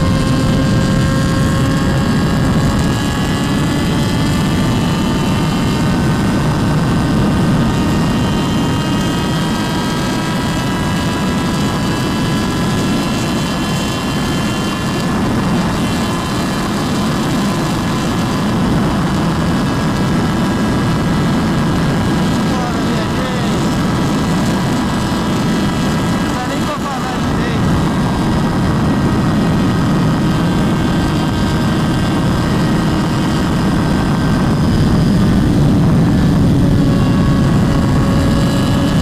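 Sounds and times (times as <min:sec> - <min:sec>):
motorcycle engine at high revs: 0:00.0 - 0:39.0
wind rush: 0:00.0 - 0:39.0.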